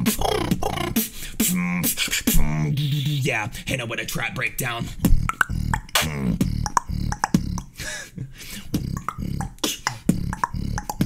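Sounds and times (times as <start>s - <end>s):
humming vocal bass: 0.0s - 3.6s, 4.7s - 7.8s, 8.6s - 11.0s
beatboxing drum sounds: 0.0s - 11.0s.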